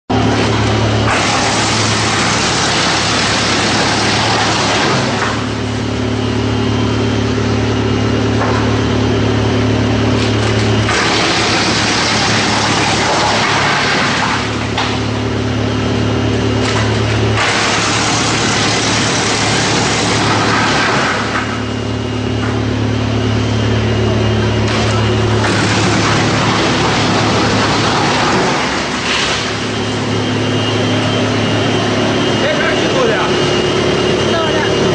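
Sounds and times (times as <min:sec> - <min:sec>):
wood chipper running: 0:00.1 - 0:34.9.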